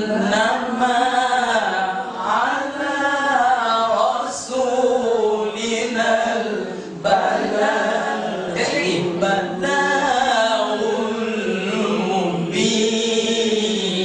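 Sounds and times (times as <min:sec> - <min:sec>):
person reciting melodically: 0:00.0 - 0:14.0.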